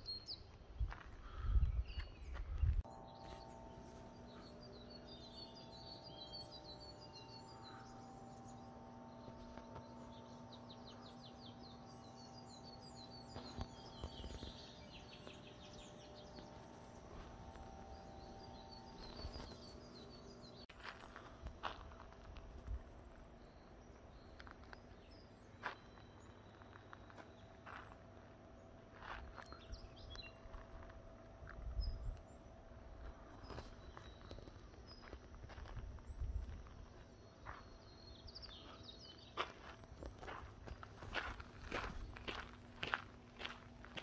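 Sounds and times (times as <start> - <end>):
birds chirping and trilling: 0.0 - 44.0
faint steady hum: 0.0 - 44.0.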